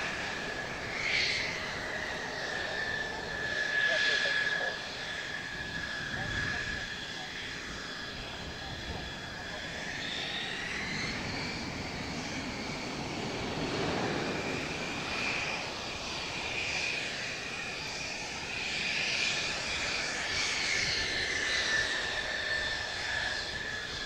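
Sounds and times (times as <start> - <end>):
jet engine whine and rumble: 0.0 - 24.0.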